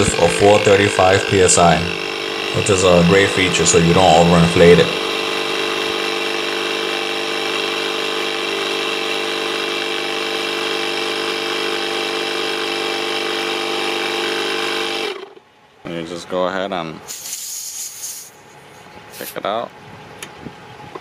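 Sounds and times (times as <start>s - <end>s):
tire inflator pump running: 0.0s - 15.6s, 17.0s - 19.4s.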